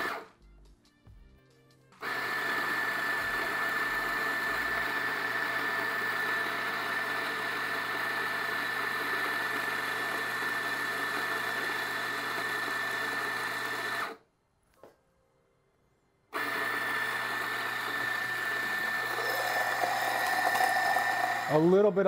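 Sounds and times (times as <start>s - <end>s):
coffee grinder grinding with whine: 2.0s - 14.2s, 16.4s - 22.0s.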